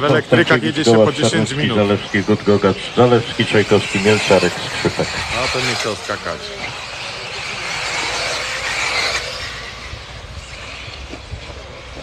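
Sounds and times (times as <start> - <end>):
rc cars passing on dirt: 0.0 - 12.0.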